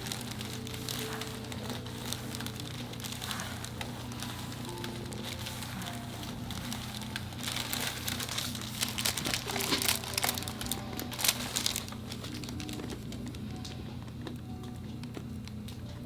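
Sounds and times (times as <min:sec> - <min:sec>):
table covering crinkling: 0:00.0 - 0:14.4
steady low hum: 0:00.0 - 0:16.0.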